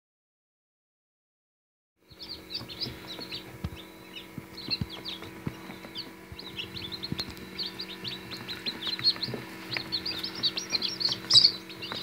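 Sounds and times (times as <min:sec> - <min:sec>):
chicks peeping: 0:02.0 - 0:12.0
steady low hum: 0:02.0 - 0:12.0.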